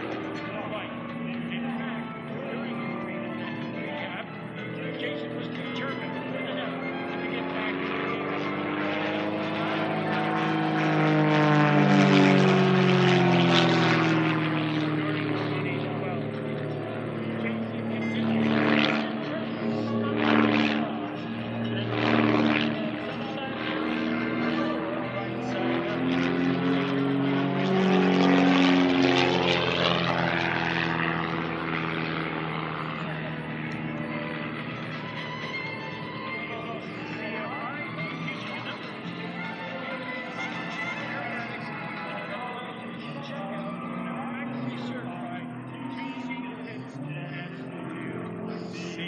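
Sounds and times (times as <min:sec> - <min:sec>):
propeller plane passing by: 0:00.0 - 0:49.0.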